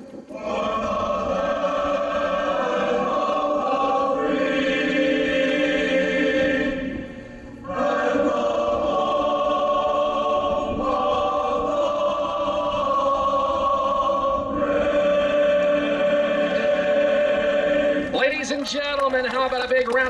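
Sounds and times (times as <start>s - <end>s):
choir singing held chords: 0.1s - 18.2s.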